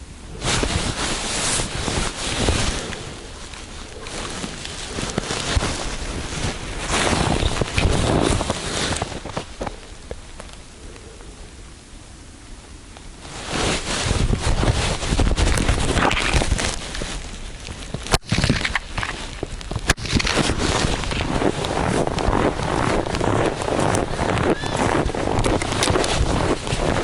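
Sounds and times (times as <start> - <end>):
wind buffeting microphone: 0.0 - 10.8, 13.2 - 27.0.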